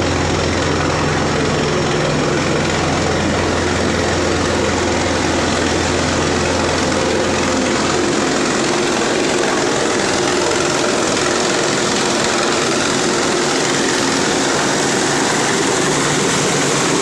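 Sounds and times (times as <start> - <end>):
helicopter running: 0.0 - 17.0.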